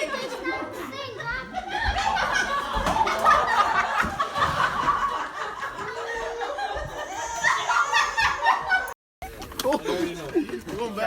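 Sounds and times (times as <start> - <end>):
people laughing: 0.0 - 10.9.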